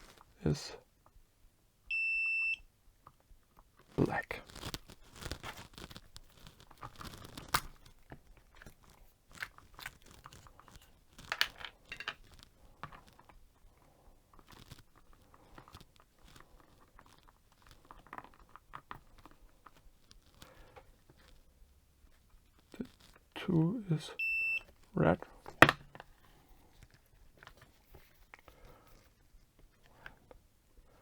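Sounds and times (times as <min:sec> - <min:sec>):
small clicks taps and scrapes: 0:03.0 - 0:23.3, 0:24.7 - 0:30.5.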